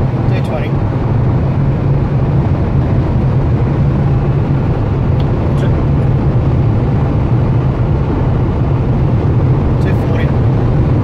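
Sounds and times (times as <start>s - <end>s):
car cabin drone: 0.0s - 11.0s.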